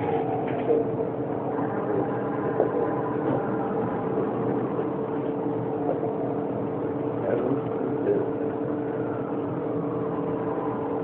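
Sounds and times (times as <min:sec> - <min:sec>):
mechanical drone: 0:00.0 - 0:11.0.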